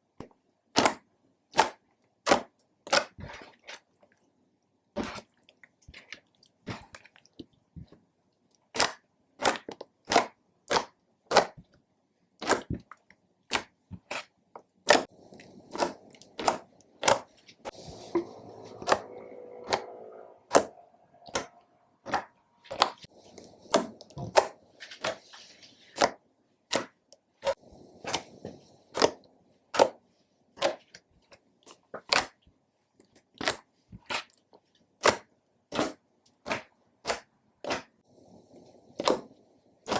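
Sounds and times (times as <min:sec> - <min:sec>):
slime squelching: 0:00.7 - 0:04.3, 0:04.9 - 0:32.4, 0:33.0 - 0:39.9.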